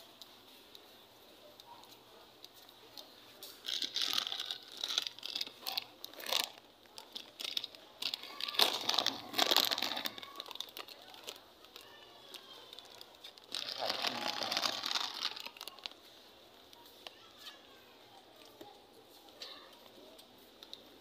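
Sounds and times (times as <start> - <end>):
plastic rustling and crinkling: 1.5 - 20.9.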